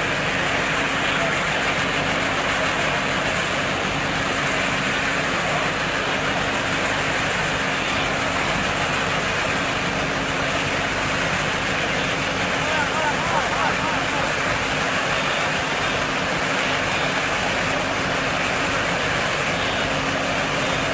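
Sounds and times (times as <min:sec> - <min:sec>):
baler machine running: 0:00.0 - 0:20.9.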